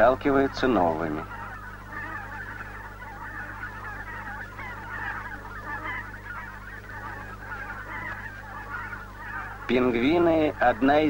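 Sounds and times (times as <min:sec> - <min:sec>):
penguins honking: 0:00.0 - 0:11.0
steady low hum: 0:00.0 - 0:11.0.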